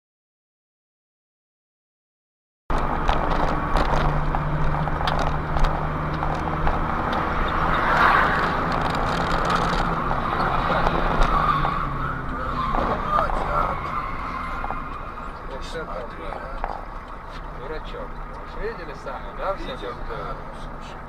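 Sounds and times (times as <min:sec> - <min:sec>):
vehicle engine and road noise: 0:02.7 - 0:21.0.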